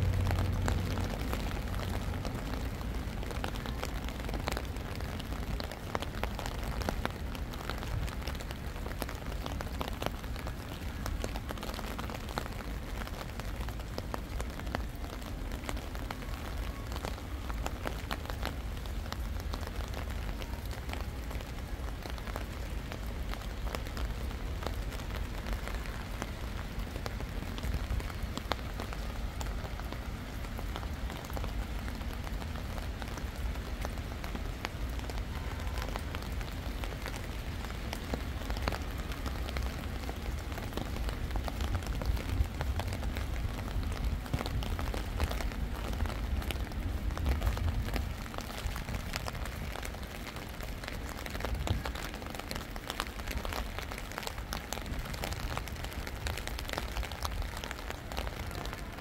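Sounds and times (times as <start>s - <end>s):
rain falling: 0.0s - 59.0s
raindrops ticking: 0.0s - 59.0s.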